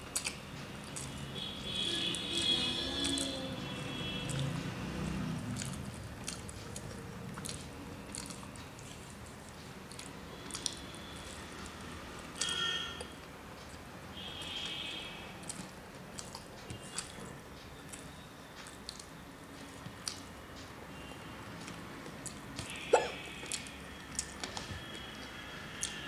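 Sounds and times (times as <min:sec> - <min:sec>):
mouth chewing: 0:00.0 - 0:01.3, 0:02.1 - 0:03.6, 0:04.2 - 0:13.2, 0:15.4 - 0:20.3, 0:21.6 - 0:26.0.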